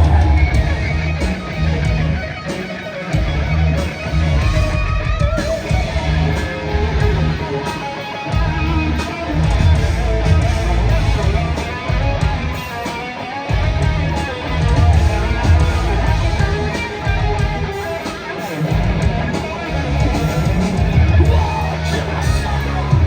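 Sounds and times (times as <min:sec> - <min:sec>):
bending guitar lead: 0:00.0 - 0:23.0
heavy metal band playing: 0:00.0 - 0:23.0.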